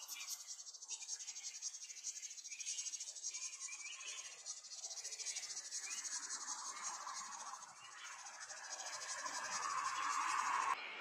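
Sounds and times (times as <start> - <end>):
insect chorus trilling: 0.0 - 10.8
short insect chirps: 0.0 - 10.8.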